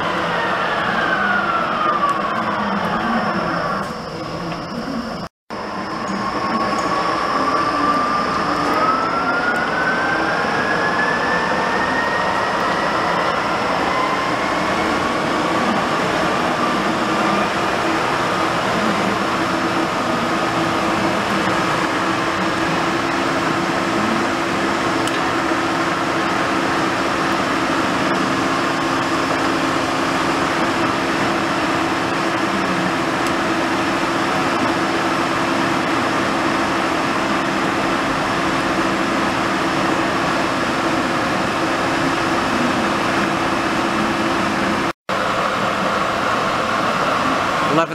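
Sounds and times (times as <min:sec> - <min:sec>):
gear whine rising in pitch: 0:00.0 - 0:44.9.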